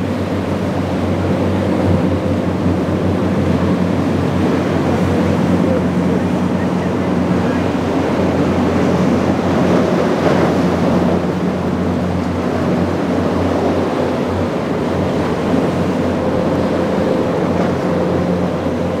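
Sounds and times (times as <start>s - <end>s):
boat engines droning: 0.0s - 19.0s
waves splashing: 0.0s - 19.0s
wind buffeting microphone: 0.0s - 19.0s.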